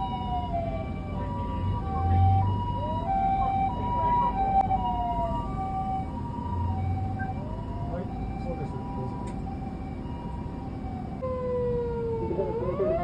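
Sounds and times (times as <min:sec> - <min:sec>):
low vehicle engine rumble: 0:00.0 - 0:13.0
two-tone hi-lo siren: 0:00.0 - 0:13.0
wailing siren: 0:00.0 - 0:13.0.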